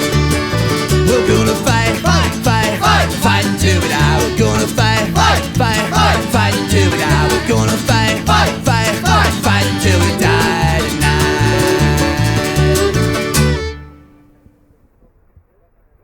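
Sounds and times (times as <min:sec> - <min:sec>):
upbeat instrumental band music: 0:00.0 - 0:14.1.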